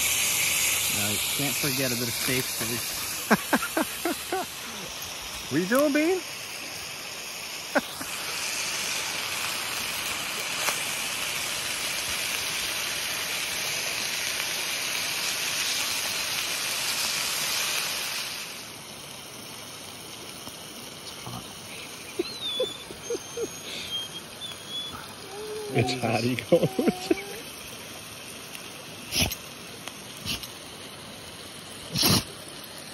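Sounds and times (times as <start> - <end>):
meat sizzling in oil: 0.0 - 32.9.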